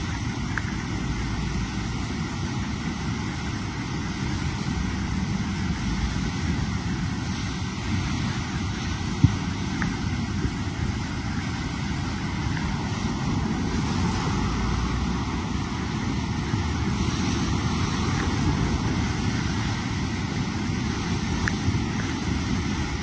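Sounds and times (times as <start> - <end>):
floodwater rushing roar: 0.0 - 23.0.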